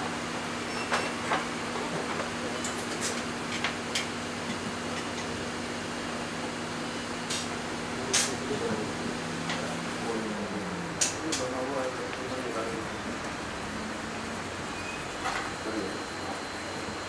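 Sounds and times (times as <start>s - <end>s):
fan hum and hiss: 0.0s - 17.0s.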